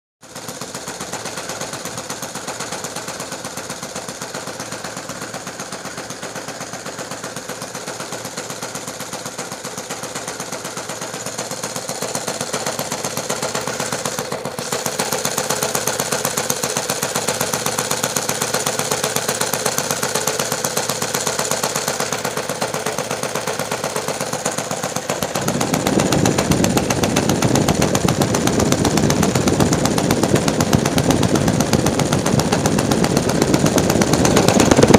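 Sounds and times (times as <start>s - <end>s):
model airplane engine idling: 0.2s - 34.9s.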